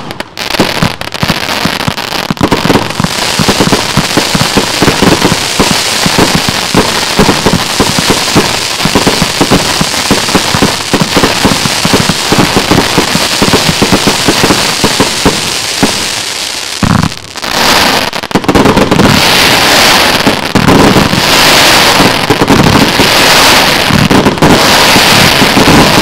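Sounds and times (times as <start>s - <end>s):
crackling hiss of stars: 0.0s - 24.0s
fireworks cake firing: 0.0s - 26.0s.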